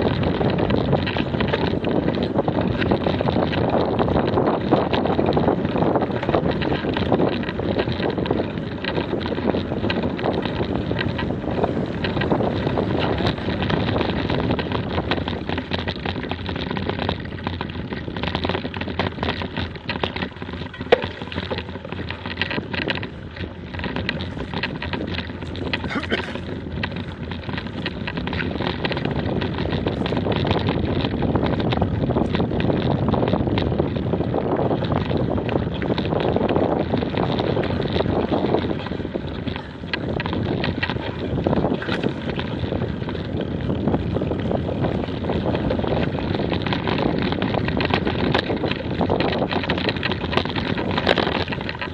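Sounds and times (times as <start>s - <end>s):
bike tyres rattling on gravel: 0.0s - 51.9s
wind buffeting microphone: 0.0s - 51.9s.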